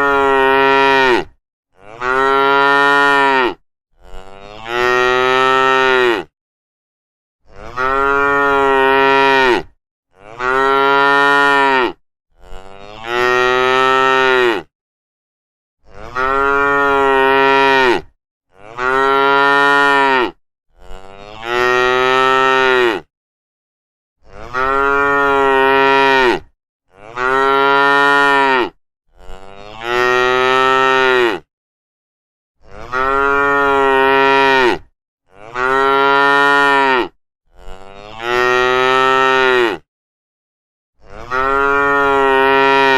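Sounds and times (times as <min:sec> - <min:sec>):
cattle mooing: 0:00.0 - 0:06.3, 0:07.5 - 0:14.7, 0:15.9 - 0:23.1, 0:24.3 - 0:31.5, 0:32.6 - 0:39.8, 0:41.1 - 0:42.9.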